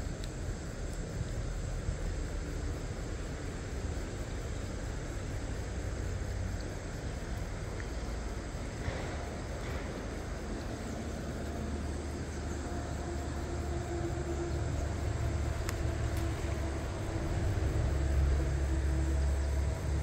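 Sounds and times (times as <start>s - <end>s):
faint steady hum: 0.0s - 20.0s
low outdoor rumble: 0.0s - 20.0s.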